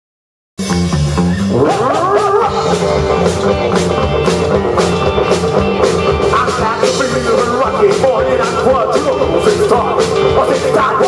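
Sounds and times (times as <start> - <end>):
bass guitar: 0.6 - 11.0
drum kit steady beat: 0.6 - 11.0
electric guitars bending notes: 0.6 - 11.0.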